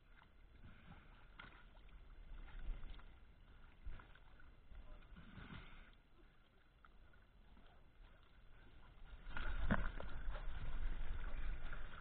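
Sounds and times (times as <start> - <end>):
sea water lapping and splashing: 0.0 - 12.0.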